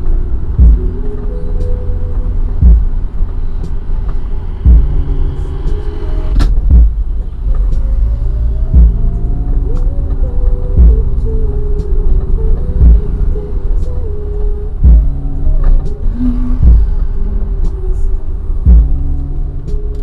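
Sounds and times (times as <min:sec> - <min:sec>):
heavy low thumps: 0:00.0 - 0:14.0, 0:14.8 - 0:17.9, 0:18.5 - 0:19.9
car driving with deep rumble: 0:00.0 - 0:20.0.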